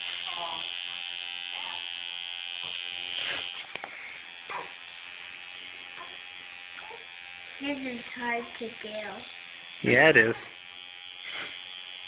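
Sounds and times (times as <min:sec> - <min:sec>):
electric tattoo machine buzzing: 0:00.0 - 0:12.0.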